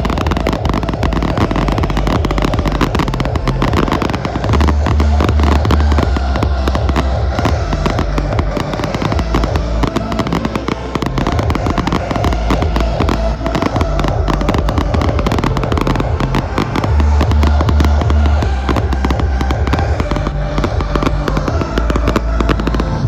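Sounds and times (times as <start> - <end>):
deep rumble: 0.0 - 23.0
fireworks bangs and crackles: 0.0 - 23.0.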